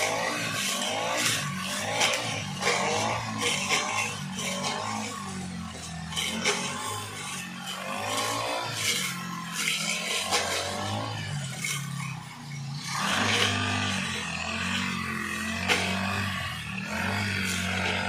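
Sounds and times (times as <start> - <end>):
blade cutting grass: 0.0 - 18.0
brush cutter revving: 0.0 - 18.0.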